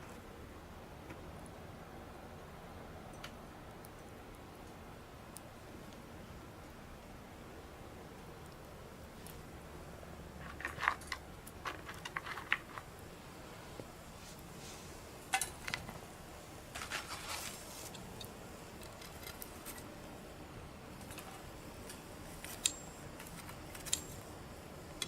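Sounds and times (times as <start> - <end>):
wood fire clicks and clinks: 3.0 - 6.8, 8.1 - 25.0.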